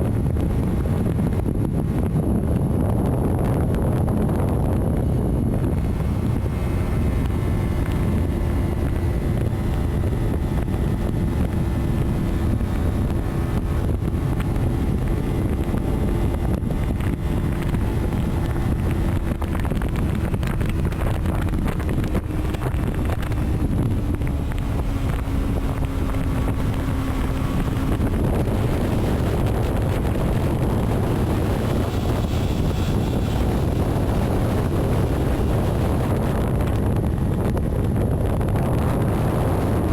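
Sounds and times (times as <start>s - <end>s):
engine tone: 0.0s - 39.9s
vehicle road and wind noise: 0.0s - 39.9s.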